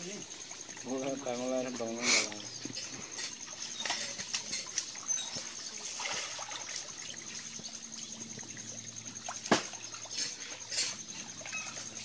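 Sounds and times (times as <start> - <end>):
water trickling and pouring: 0.0 - 12.0.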